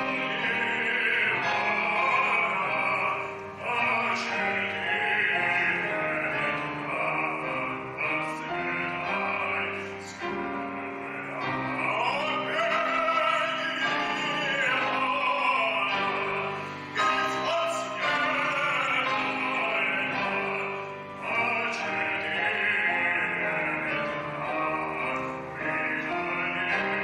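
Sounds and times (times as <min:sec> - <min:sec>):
musical accompaniment: 0:00.0 - 0:27.0
person singing operatically: 0:00.0 - 0:27.0.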